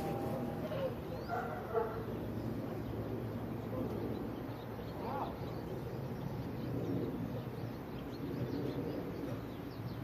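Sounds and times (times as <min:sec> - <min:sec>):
birds chirping: 0:00.0 - 0:10.0
low steady hum: 0:00.0 - 0:10.0.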